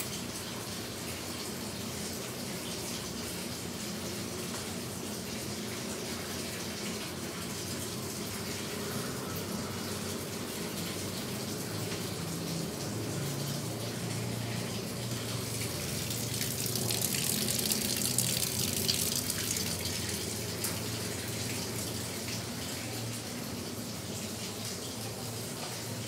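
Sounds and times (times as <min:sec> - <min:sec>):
water running from tap: 0:00.0 - 0:26.0.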